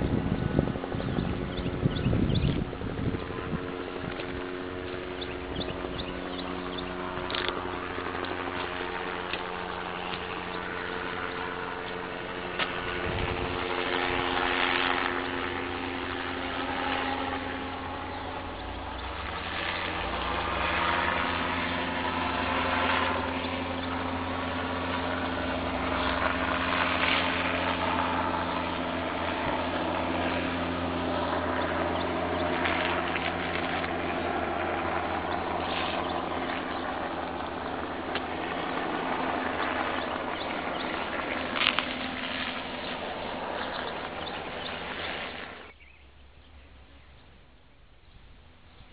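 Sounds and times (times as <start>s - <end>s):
engine humming: 0.0s - 48.9s.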